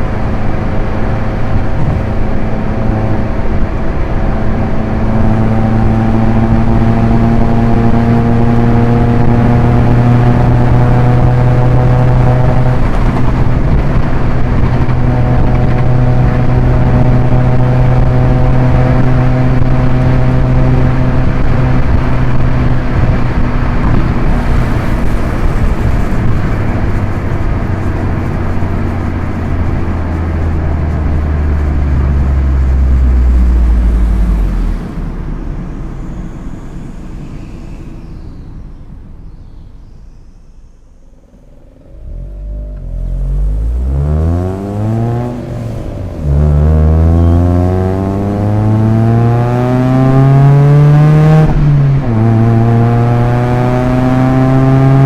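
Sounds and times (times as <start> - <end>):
car engine: 0.0 - 55.0
road noise: 0.0 - 55.0.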